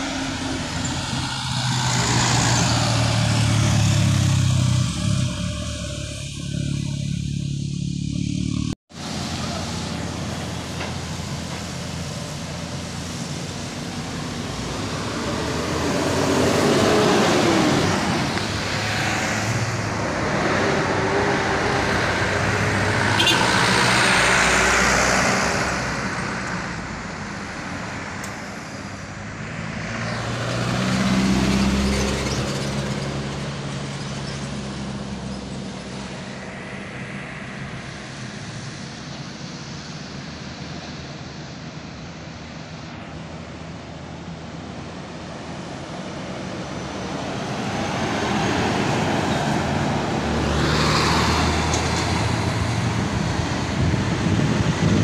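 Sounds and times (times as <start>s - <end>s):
bus driving past: 0.0s - 55.0s
cars driving past: 0.0s - 55.0s
trucks driving past: 0.0s - 55.0s.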